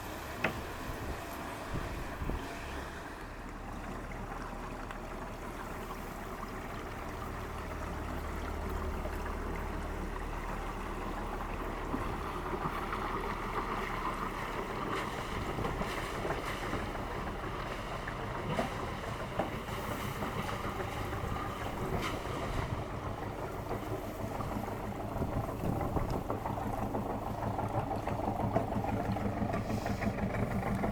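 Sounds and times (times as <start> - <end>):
boat engine humming: 0.0 - 30.9.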